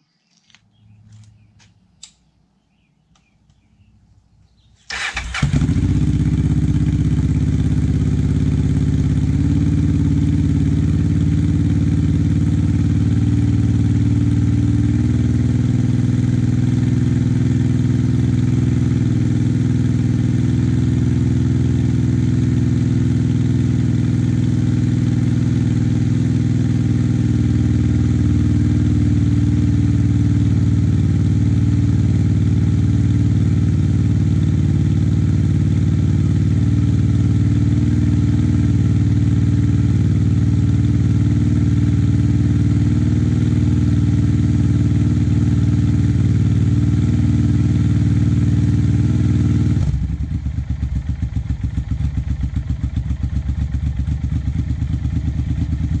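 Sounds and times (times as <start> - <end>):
motorcycle engine starting and idling: 0.5 - 56.0.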